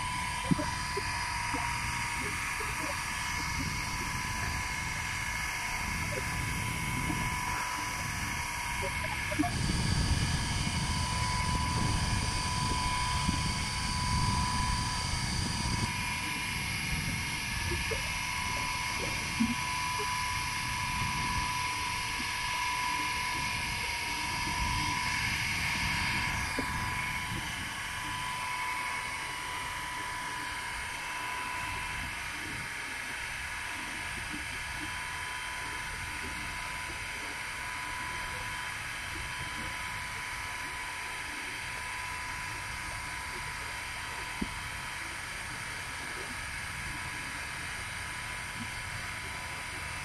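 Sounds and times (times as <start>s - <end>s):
low wind rumble on microphone: 0.0s - 50.0s
machine drone with high whine: 0.0s - 50.0s.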